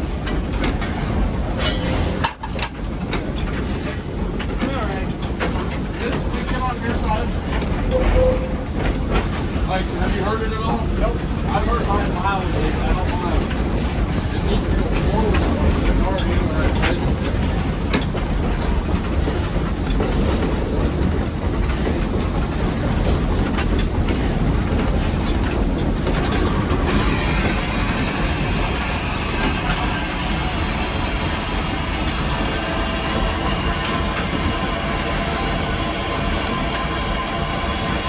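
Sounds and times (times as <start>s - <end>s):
steady steam hiss: 0.0s - 38.0s
steam locomotive rumble: 0.0s - 38.0s.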